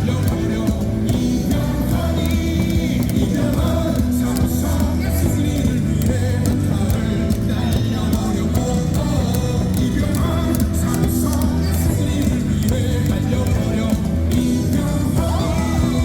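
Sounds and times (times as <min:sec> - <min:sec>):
cheer song over loudspeakers: 0:00.0 - 0:16.0.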